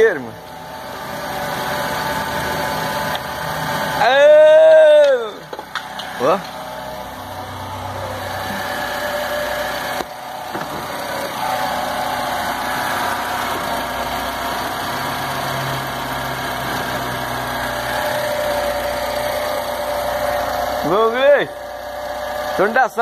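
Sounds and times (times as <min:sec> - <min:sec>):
car engine idling: 0:00.0 - 0:22.8.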